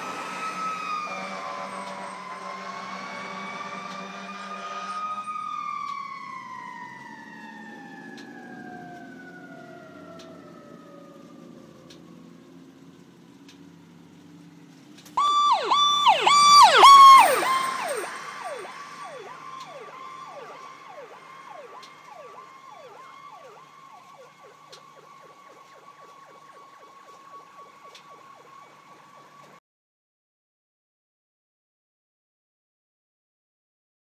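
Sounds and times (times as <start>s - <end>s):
emergency siren yelping: 0.0s - 29.6s.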